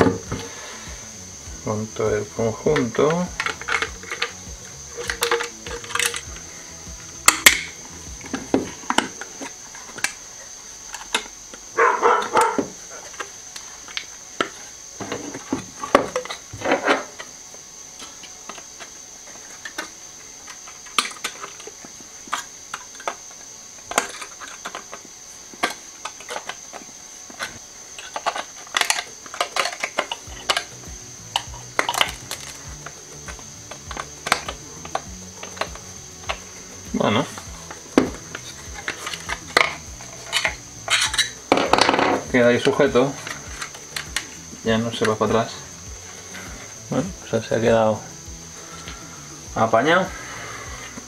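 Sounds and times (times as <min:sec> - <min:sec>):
faint high whine: 0:00.0 - 0:51.0.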